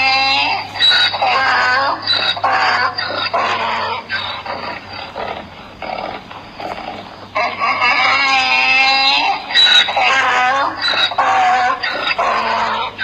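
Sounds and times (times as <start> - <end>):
pig grunting and oinking: 0.0 - 13.0.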